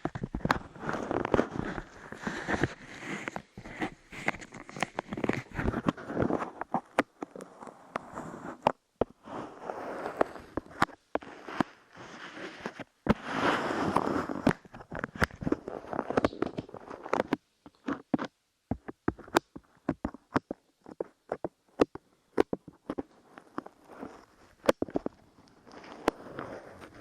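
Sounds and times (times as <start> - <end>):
sticky clay crackling: 0.0 - 27.0.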